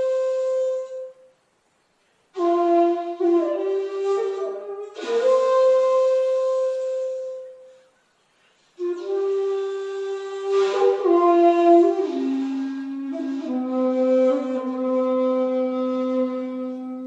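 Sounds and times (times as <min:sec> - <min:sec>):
breathy bamboo flute playing: 0:00.0 - 0:01.4, 0:02.3 - 0:17.0.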